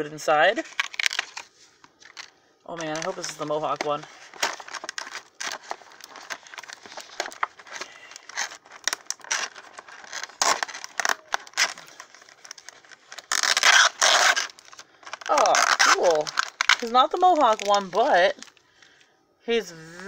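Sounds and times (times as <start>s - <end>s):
packaging crinkling and rustling: 0.4s - 19.0s.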